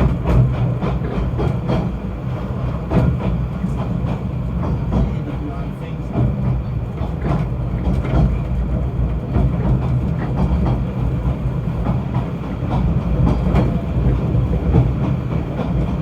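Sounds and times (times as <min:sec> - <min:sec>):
train running with low rumble: 0:00.0 - 0:16.0.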